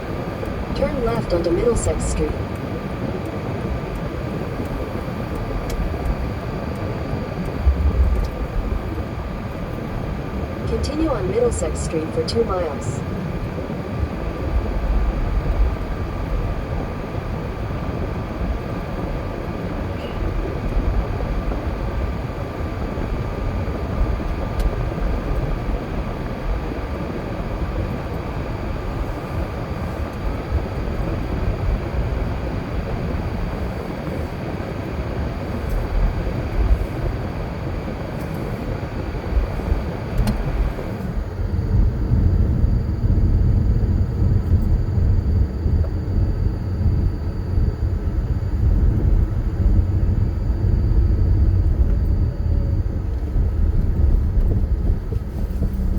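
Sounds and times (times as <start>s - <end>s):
faint steady whine: 0.0s - 55.9s
car engine and tyre noise: 2.5s - 11.0s, 13.1s - 55.9s.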